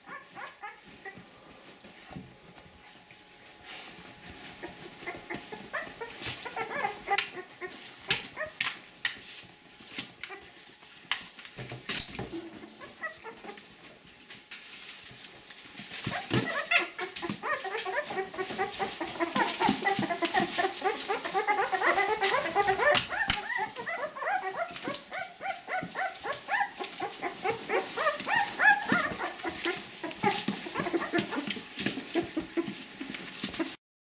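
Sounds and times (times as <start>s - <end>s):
puppies whimpering and squeaking: 0.0s - 3.1s, 3.8s - 8.8s, 9.8s - 10.7s, 11.6s - 14.2s, 14.8s - 33.8s
scratchy clicks and rustles: 0.1s - 33.8s.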